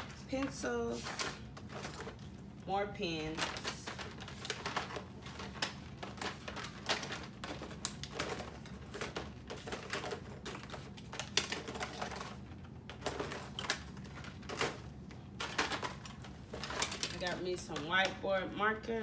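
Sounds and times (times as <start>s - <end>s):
plastic packaging rummaged in bin: 0.0s - 2.3s, 3.1s - 18.0s.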